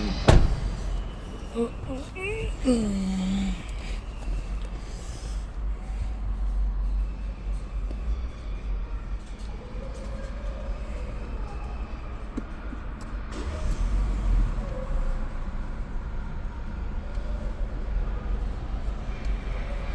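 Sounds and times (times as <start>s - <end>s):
car engine low rumble: 0.0s - 19.9s.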